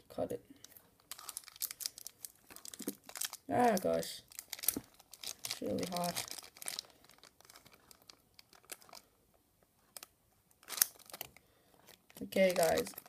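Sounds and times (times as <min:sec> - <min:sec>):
plastic bag crinkling: 0:00.6 - 0:09.2, 0:10.0 - 0:13.0.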